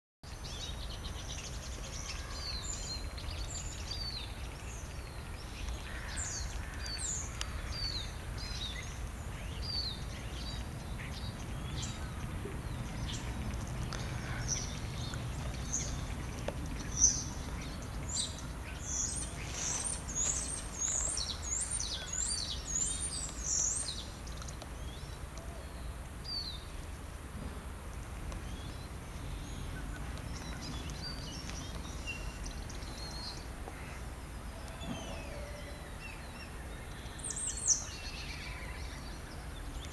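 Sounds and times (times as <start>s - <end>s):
small birds chirping: 0.2s - 27.1s, 28.0s - 39.9s.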